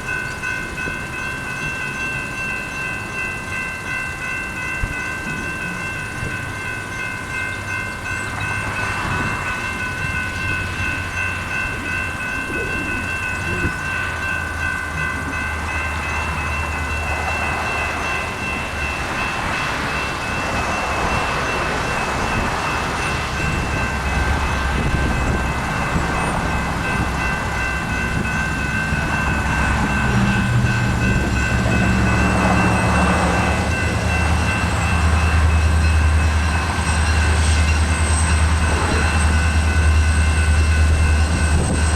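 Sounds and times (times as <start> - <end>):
diesel locomotive rumble: 0.0 - 41.9
electronic crossing bells ringing: 0.0 - 41.9.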